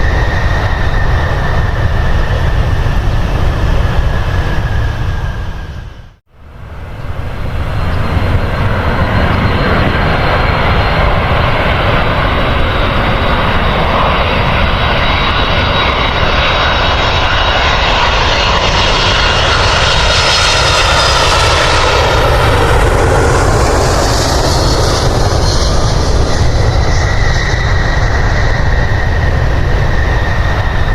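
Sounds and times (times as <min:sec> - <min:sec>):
airliner engines roaring: 0:00.0 - 0:30.9.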